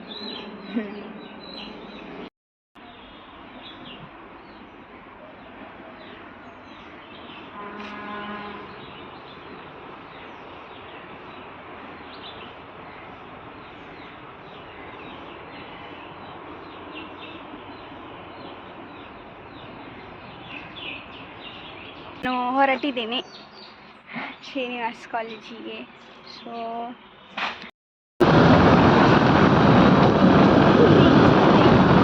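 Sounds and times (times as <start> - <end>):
birds chirping: 0.0 - 27.4.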